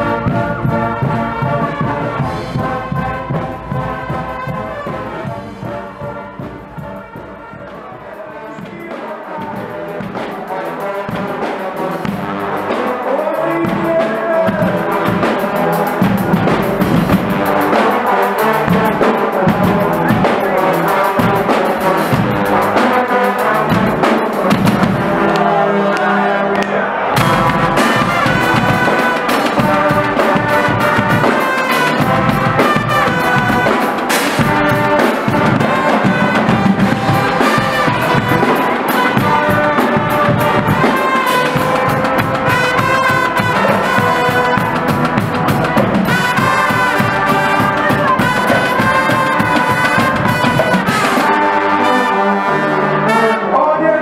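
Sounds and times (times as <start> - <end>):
steady drum beat: 0.0 - 25.5, 27.0 - 52.0
brass band playing: 0.0 - 54.0.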